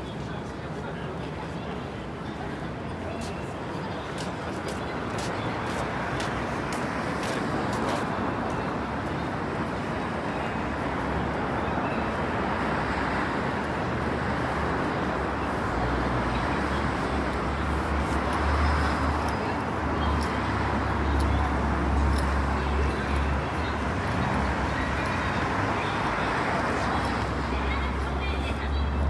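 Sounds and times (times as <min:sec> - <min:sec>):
road traffic noise: 0:00.0 - 0:29.0.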